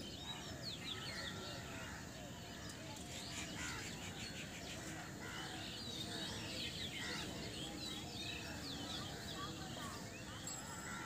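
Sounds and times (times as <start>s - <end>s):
low steady background noise: 0.0s - 11.0s
small birds chirping: 0.0s - 11.0s.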